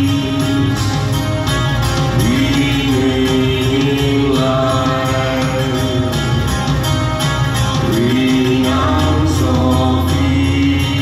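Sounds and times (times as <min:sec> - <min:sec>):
low bass: 0:00.0 - 0:11.0.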